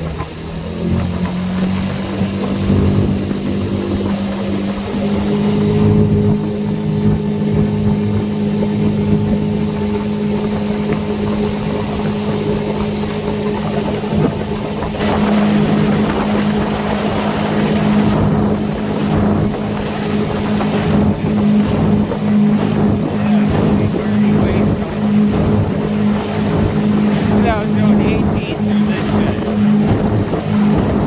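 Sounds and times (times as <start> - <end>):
motorboat engine humming: 0.0 - 31.0
rush of wind and water: 0.0 - 31.0.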